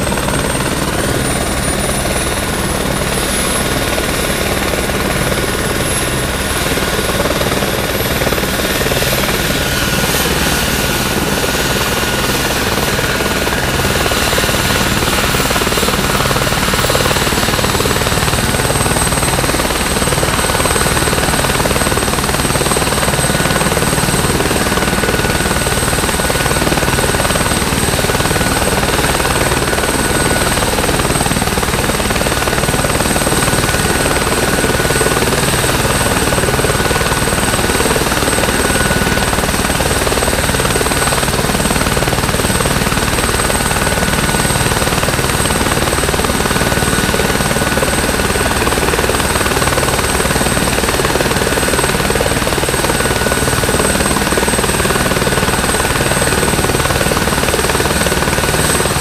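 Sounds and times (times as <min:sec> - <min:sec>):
helicopter rotor chop: 0:00.0 - 0:59.0
helicopter turbine whine: 0:00.0 - 0:59.0.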